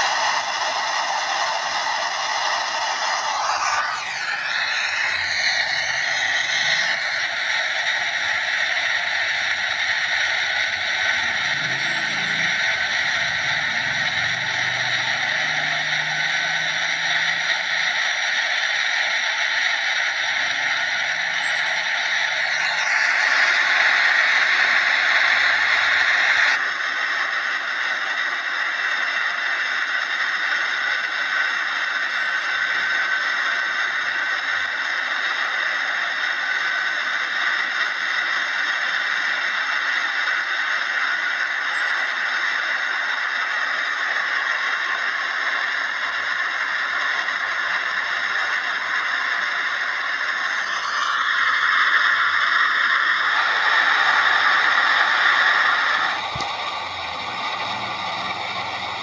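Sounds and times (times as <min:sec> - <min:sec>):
jet engines roaring: 0:00.0 - 0:34.9, 0:42.9 - 0:59.0.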